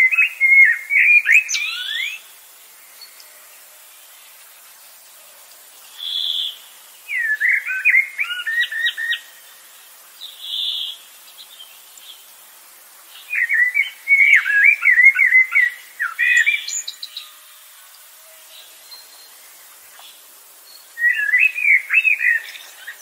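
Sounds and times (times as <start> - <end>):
bird song with sweeping chirps: 0.0 - 4.3, 5.8 - 9.6, 10.2 - 12.3, 13.1 - 17.5, 18.2 - 23.0.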